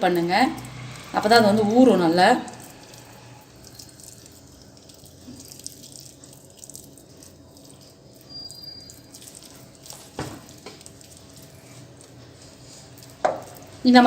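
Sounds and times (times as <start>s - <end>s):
wet squelching of hands: 2.4s - 13.8s.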